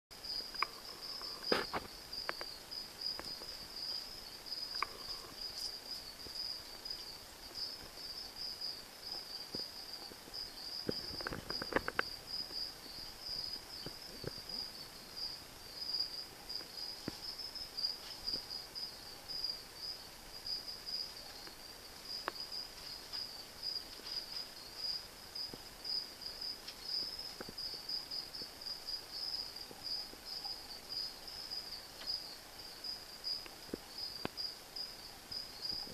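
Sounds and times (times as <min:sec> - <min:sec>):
cricket chirping: 0:00.1 - 0:35.9.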